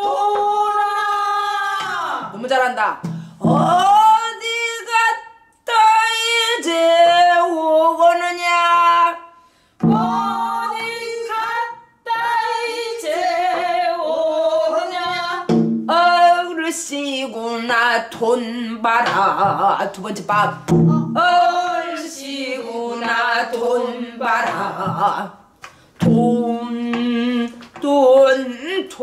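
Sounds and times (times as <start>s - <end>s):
woman singing solo with vibrato: 3.4s - 25.3s, 26.0s - 29.0s.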